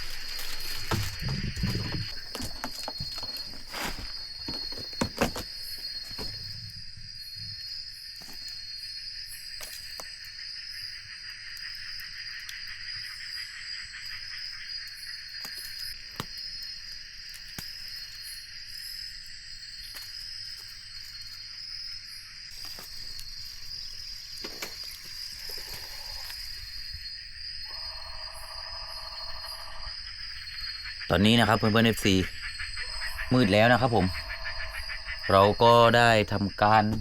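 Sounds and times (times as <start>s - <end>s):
forest insects chorus: 0.0s - 37.0s.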